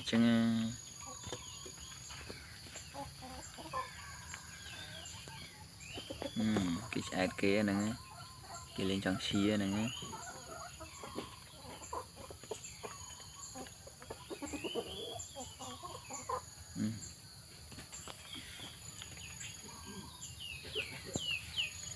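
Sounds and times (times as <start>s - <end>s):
animal clucking and cheeping: 0.0s - 21.9s.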